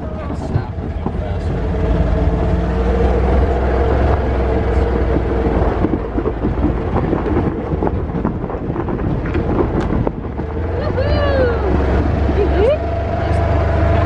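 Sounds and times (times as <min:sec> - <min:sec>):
utility vehicle engine drone: 0:00.0 - 0:14.0
vehicle rumble and rattle: 0:00.0 - 0:14.0.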